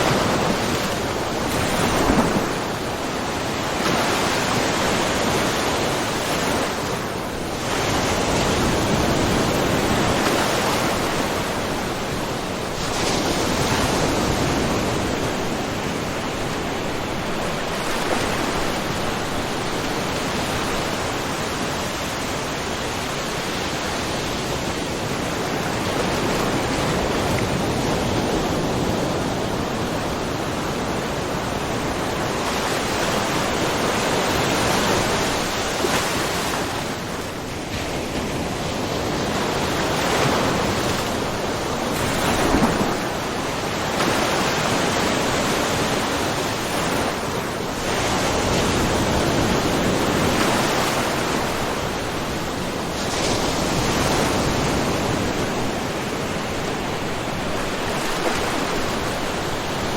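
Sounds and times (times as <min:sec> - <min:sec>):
small waves splashing: 0:00.0 - 0:59.9.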